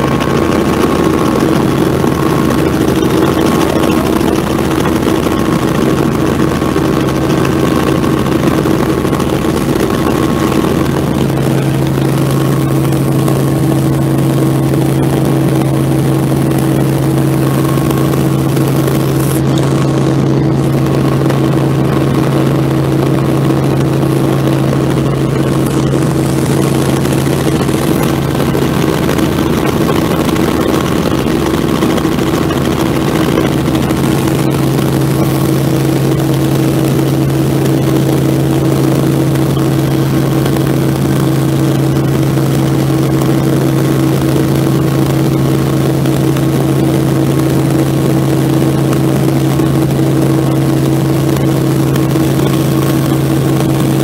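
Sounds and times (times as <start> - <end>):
helicopter engine and rotors drone: 0.0 - 54.0.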